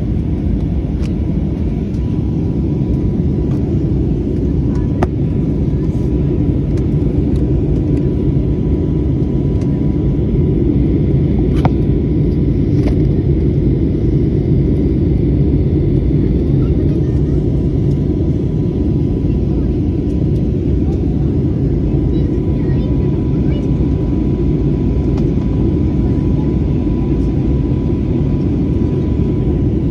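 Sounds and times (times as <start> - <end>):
airliner cabin rumble: 0.0 - 29.9.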